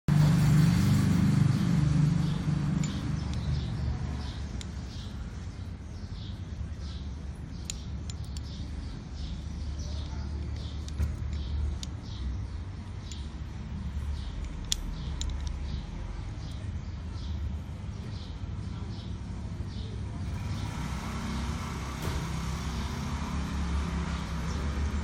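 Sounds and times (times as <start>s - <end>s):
low rumble of traffic: 0.1s - 25.0s
small birds chirping: 0.6s - 25.0s.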